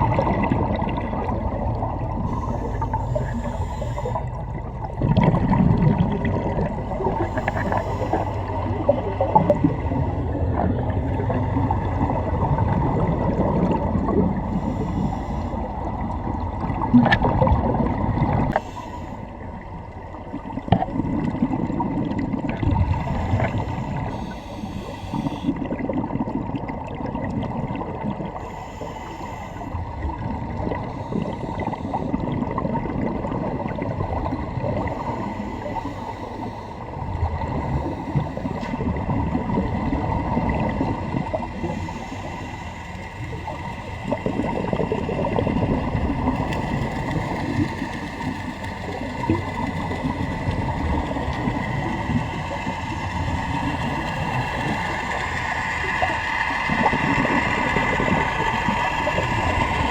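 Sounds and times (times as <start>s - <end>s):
underwater gurgling bubbles: 0.0s - 59.9s.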